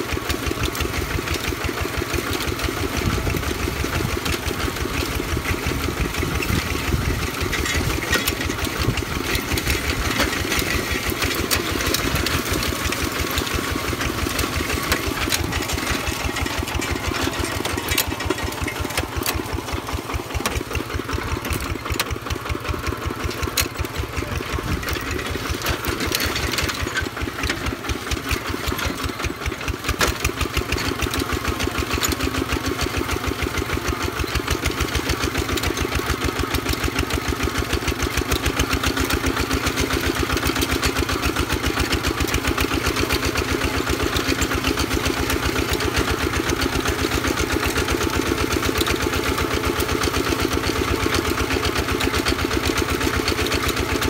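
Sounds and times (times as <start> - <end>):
walking tractor diesel engine: 0.0 - 54.0.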